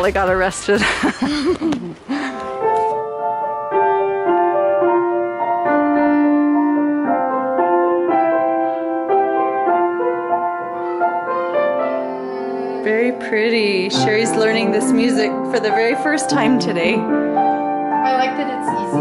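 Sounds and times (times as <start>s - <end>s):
gentle piano melody: 2.1s - 19.0s.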